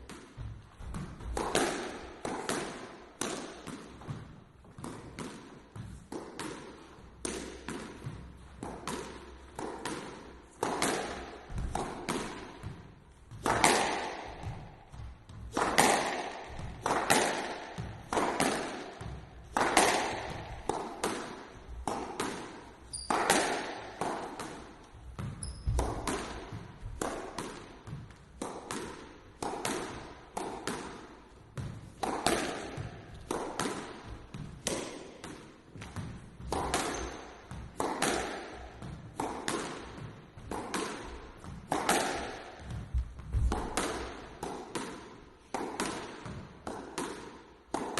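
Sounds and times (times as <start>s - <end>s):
squash ball striking wall: 0.0s - 47.9s.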